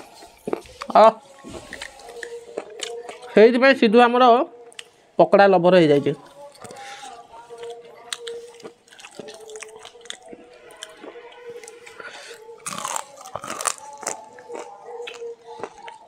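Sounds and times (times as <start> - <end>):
chewing crispy fried food: 0.0 - 3.4, 4.5 - 5.0, 5.9 - 16.0.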